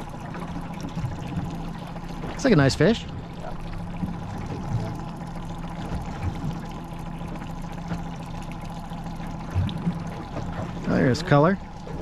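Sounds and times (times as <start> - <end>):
outboard motor idling: 0.0 - 12.0
water splashing against hull: 0.0 - 12.0.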